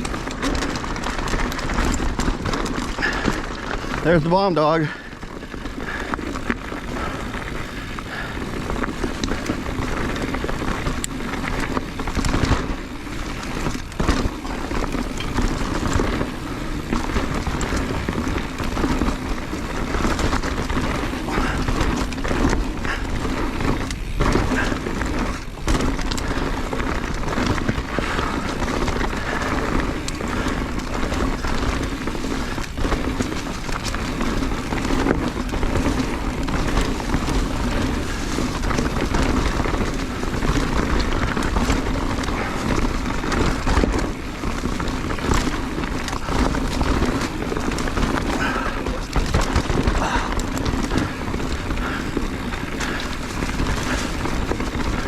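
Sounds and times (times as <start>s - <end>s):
bike knocks and rattles: 0.0s - 55.0s
bike tyres rolling over dirt and rock: 0.0s - 55.0s.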